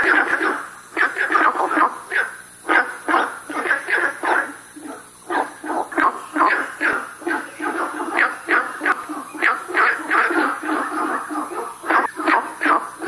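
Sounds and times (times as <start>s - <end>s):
frog calling: 0.0s - 13.0s.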